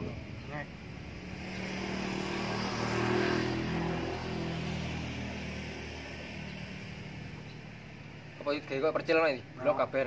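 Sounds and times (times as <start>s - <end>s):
motor vehicle passing by: 0.0s - 10.0s.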